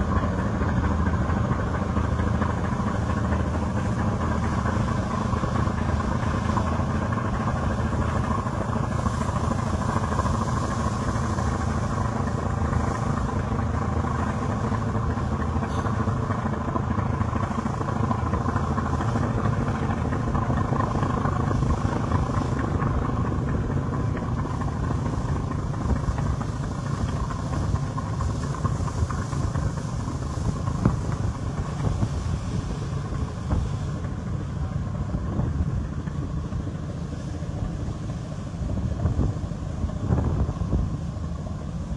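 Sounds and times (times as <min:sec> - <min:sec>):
boat engine drone: 0:00.0 - 0:41.9
water rushing along hull: 0:00.0 - 0:41.9.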